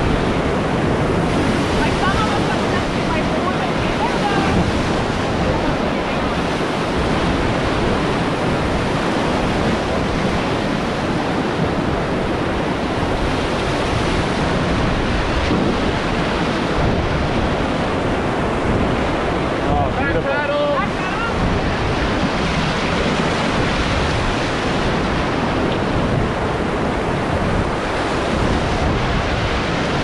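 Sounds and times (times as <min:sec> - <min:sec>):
river water rushing: 0:00.0 - 0:30.0
wind buffeting microphone: 0:00.0 - 0:30.0.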